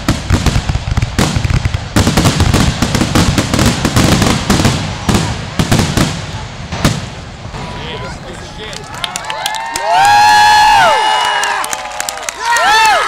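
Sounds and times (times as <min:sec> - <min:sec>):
fireworks bangs and crackling: 0:00.0 - 0:11.2.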